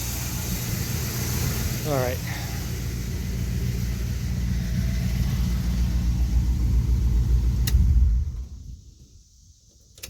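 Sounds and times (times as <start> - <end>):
pickup engine idling: 0.0 - 9.5.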